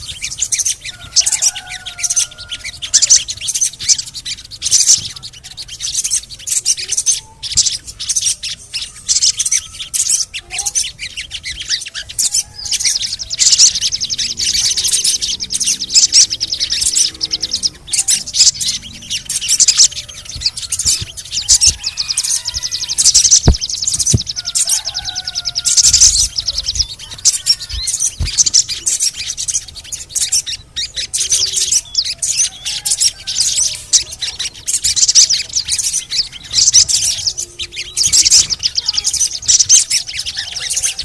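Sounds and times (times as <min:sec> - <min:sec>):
bird chattering twitter: 0:00.0 - 0:41.0.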